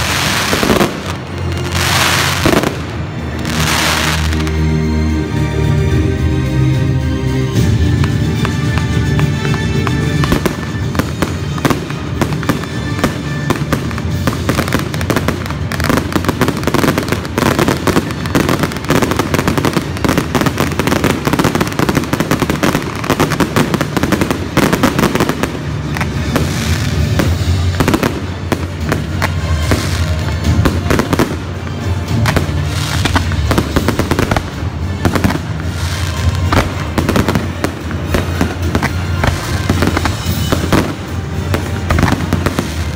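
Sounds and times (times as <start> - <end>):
fireworks bangs and crackle: 0.0 - 4.8, 7.5 - 42.9.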